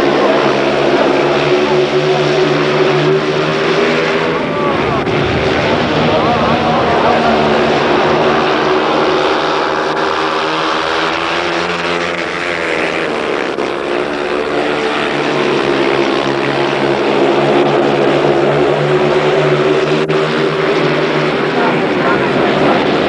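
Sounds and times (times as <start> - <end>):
motorcycles racing: 0.0 - 23.0.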